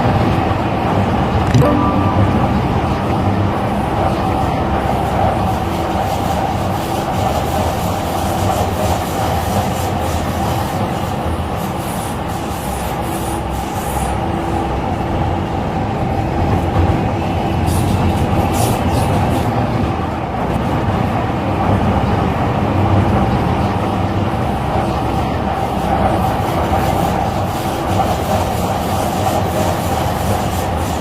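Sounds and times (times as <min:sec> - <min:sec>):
train wheel rumble: 0:03.0 - 0:31.0.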